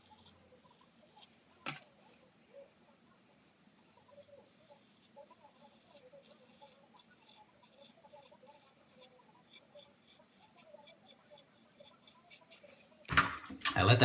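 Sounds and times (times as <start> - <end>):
razor scraping stubble: 0.0 - 2.2, 3.9 - 13.1.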